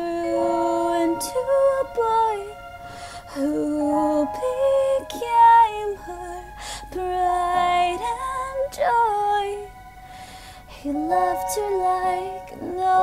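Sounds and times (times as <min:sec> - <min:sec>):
woman singing: 0:00.0 - 0:02.6, 0:03.2 - 0:09.8, 0:10.6 - 0:13.0.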